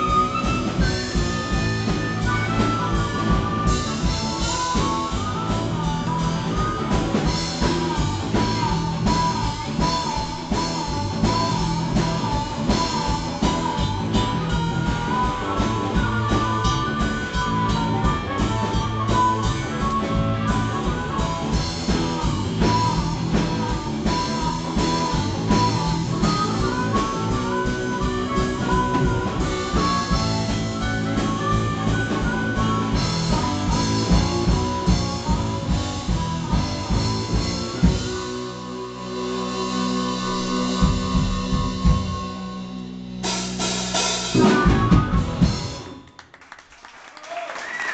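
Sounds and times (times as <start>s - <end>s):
live rock band playing: 0.0s - 46.5s.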